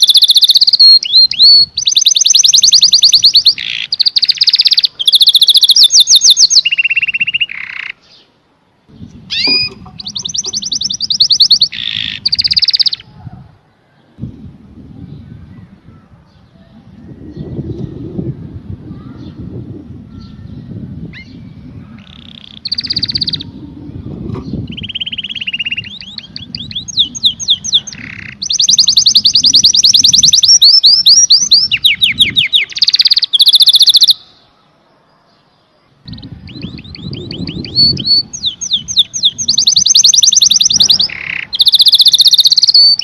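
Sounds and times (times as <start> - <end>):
canary singing trills: 0.0 - 14.2, 15.0 - 34.7, 35.3 - 43.0.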